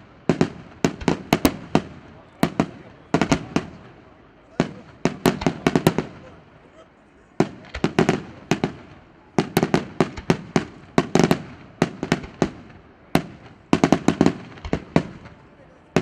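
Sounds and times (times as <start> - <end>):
fireworks bangs echoing: 0.0 - 6.6, 7.4 - 16.0.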